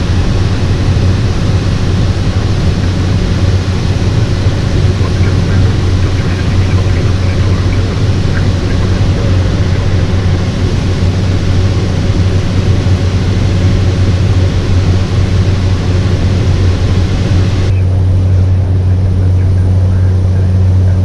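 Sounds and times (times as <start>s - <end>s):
turboprop engine droning: 0.0s - 21.0s.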